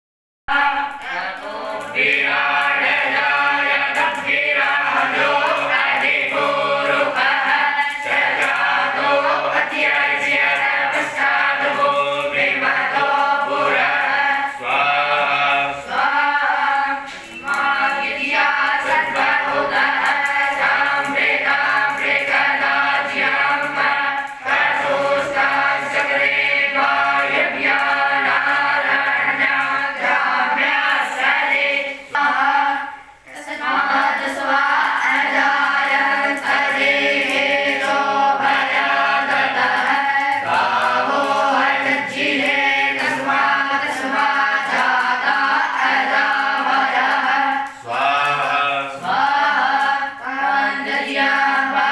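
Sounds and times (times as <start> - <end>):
group chanting in unison: 0.5 - 51.9.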